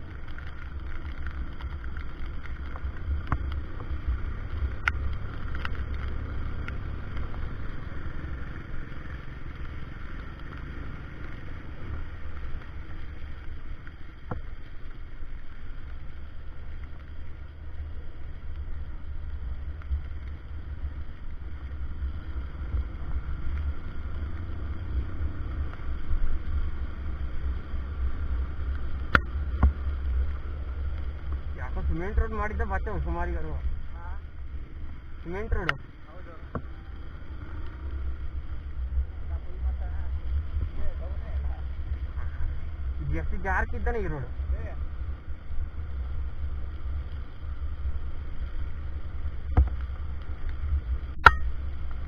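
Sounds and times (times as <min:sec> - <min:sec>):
motorcycle engine rumble: 0:00.0 - 0:52.0.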